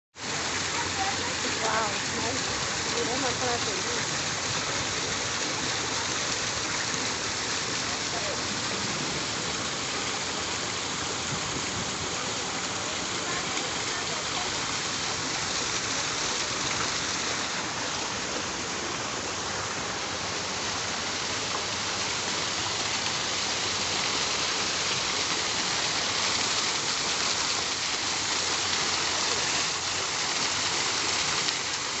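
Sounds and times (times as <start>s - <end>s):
rushing water: 0.1s - 32.0s.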